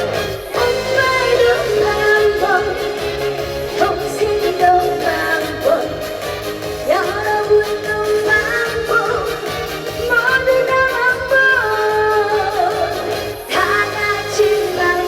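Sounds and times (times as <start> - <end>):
upbeat band backing track: 0.0 - 15.0
woman singing: 0.4 - 15.0.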